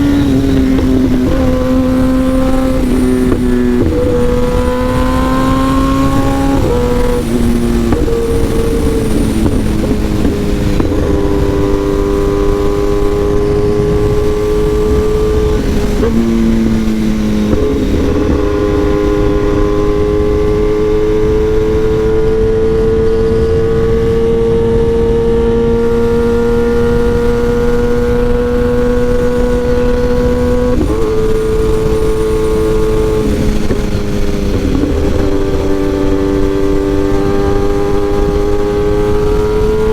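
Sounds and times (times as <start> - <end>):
low wind rush: 0.0 - 39.9
motorcycle engine accelerating: 0.0 - 39.9.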